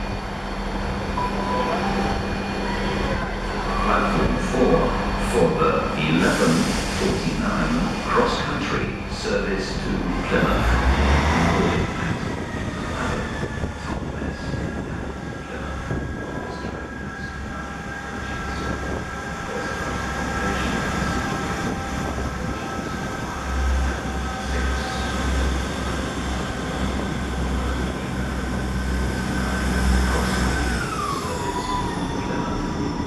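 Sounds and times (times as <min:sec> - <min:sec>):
high whine: 0:00.0 - 0:31.7
diesel train engines rumbling: 0:00.0 - 0:33.0.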